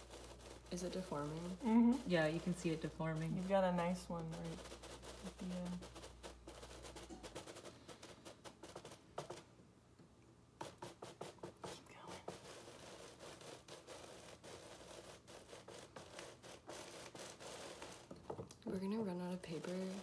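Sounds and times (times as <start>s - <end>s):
paper scratching through sand: 0.0s - 9.4s, 10.6s - 20.0s.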